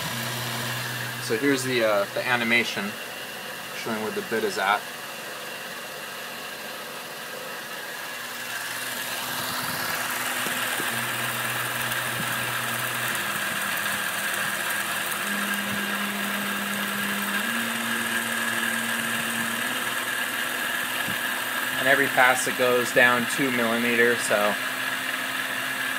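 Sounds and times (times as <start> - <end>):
milling machine cutting plastic: 0.0 - 5.6, 7.3 - 25.9.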